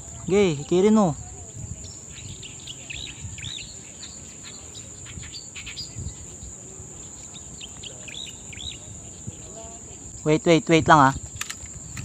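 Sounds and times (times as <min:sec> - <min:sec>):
insect chirps: 0:00.0 - 0:12.0
insects droning: 0:00.0 - 0:12.0.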